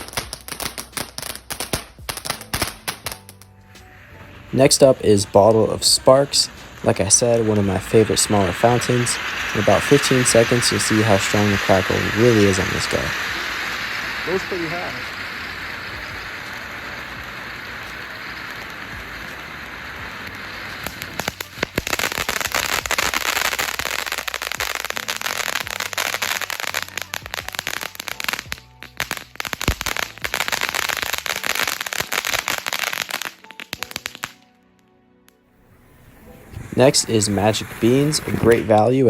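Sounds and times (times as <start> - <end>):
firework sparks hissing: 0.0 - 34.4, 35.7 - 39.0
firework crackling: 0.0 - 34.5, 35.7 - 39.0.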